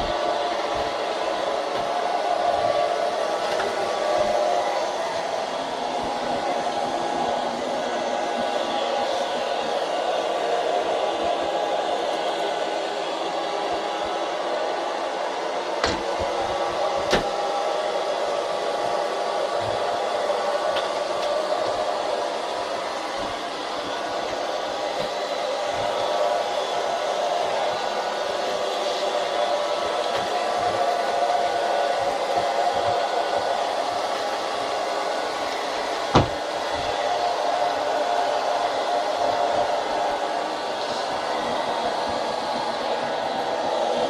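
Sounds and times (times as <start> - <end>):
robot vacuum whirring: 0.0 - 44.0.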